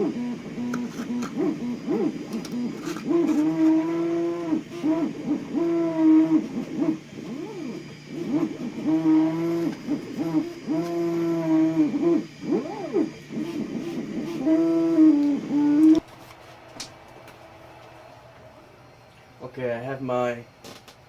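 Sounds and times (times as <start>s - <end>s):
stepper motors whining: 0.0s - 19.5s.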